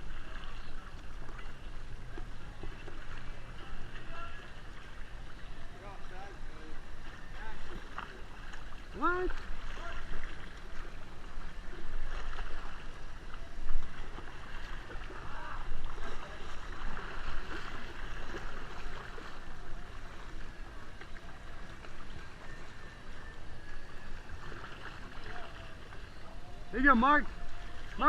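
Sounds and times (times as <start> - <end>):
paddles splashing water: 0.0 - 28.0.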